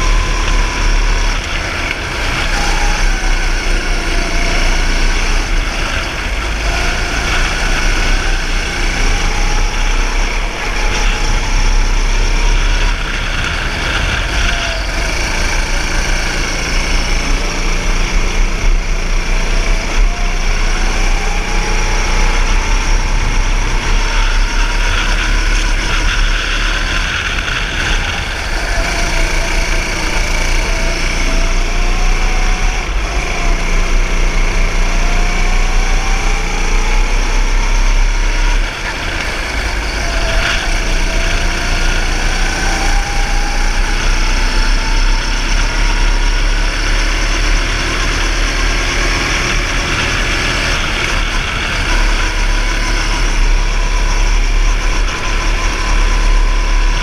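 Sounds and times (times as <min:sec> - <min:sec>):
go-kart engine: 0:00.0 - 0:57.0.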